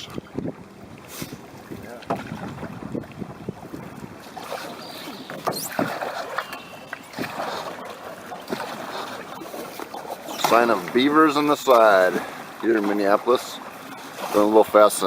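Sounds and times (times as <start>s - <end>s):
water splashing around boat: 0.0s - 15.0s.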